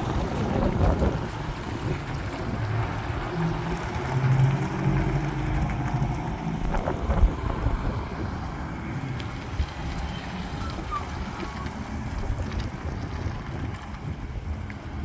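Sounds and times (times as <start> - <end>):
truck diesel engine passing: 0.0 - 15.0
wind on microphone: 0.0 - 15.0.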